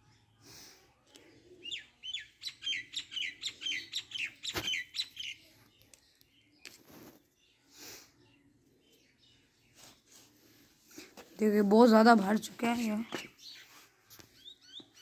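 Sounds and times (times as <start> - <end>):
small bird chirping: 1.1 - 15.0.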